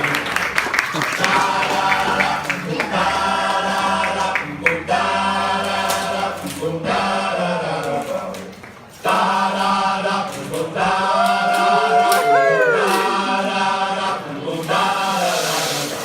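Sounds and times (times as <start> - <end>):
voices singing in unison: 1.0 - 8.4, 9.0 - 16.0.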